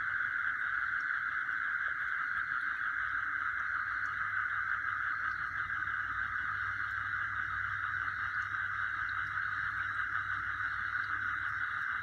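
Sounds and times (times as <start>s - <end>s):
night insects calling: 0.0s - 12.0s.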